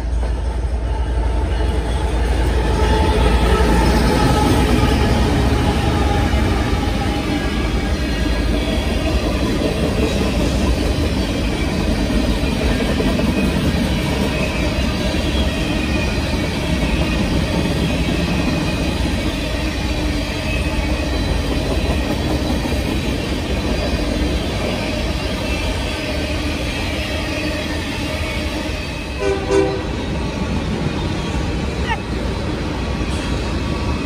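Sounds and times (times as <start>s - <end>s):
freight train wheels rumbling on rails: 0.0s - 34.0s.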